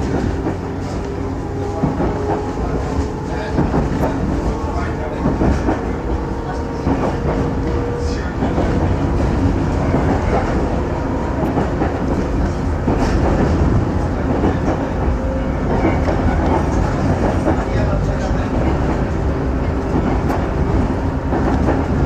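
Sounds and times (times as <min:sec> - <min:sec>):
train rumble inside carriage: 0:00.0 - 0:22.0
wheels clacking over rail joints: 0:00.0 - 0:22.0.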